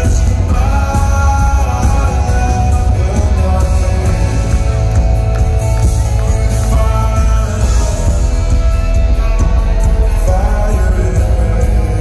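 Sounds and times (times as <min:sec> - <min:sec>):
acoustic guitar: 0:00.0 - 0:12.0
electric guitar: 0:00.0 - 0:12.0
heavy bass: 0:00.0 - 0:12.0
keyboard: 0:00.0 - 0:12.0
man singing: 0:00.0 - 0:12.0.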